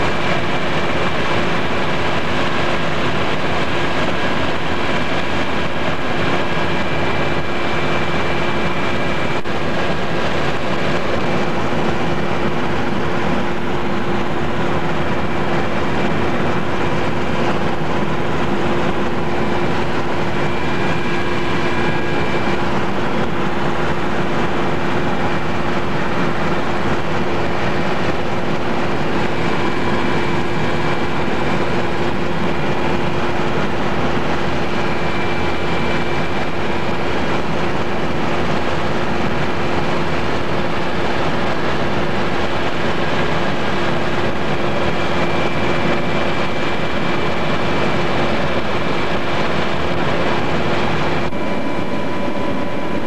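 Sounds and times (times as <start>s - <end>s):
aircraft engine drone in cabin: 0.0s - 53.0s.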